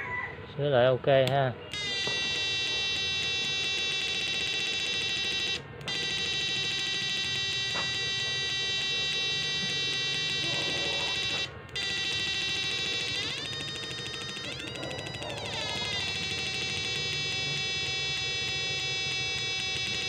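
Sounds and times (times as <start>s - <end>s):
inverter high-pitched whine: 1.6s - 20.0s.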